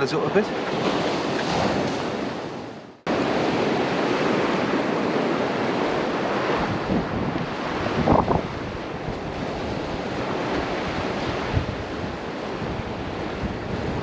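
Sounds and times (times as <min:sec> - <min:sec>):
sea waves washing on shore: 0:00.0 - 0:14.0
wind buffeting microphone: 0:00.0 - 0:14.0.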